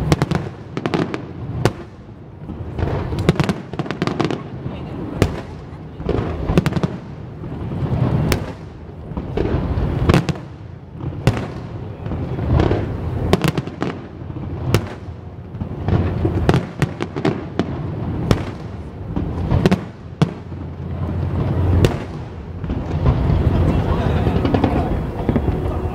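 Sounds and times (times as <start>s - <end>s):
fireworks bangs: 0.0s - 25.9s
small fireworks pops: 0.0s - 25.9s
low rumble of booms: 5.0s - 25.9s.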